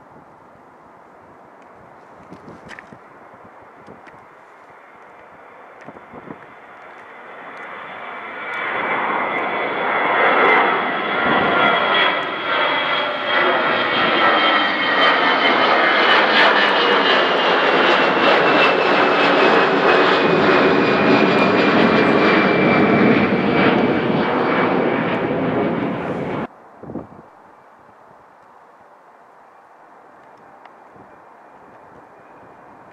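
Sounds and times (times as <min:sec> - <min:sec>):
jet engines roaring: 0:01.4 - 0:26.5, 0:27.4 - 0:32.9.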